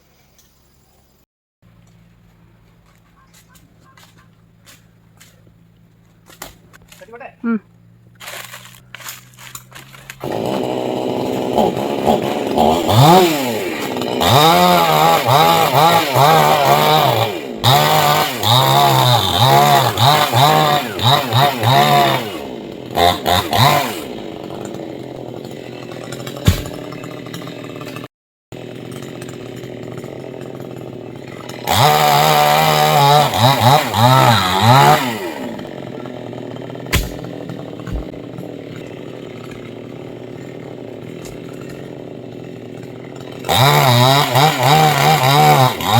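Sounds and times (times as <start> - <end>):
two-stroke chainsaw revving: 7.7 - 45.9.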